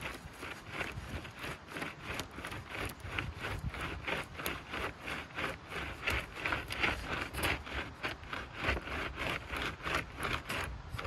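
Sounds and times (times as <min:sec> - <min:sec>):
dirt being scraped and dug: 0:00.0 - 0:11.0.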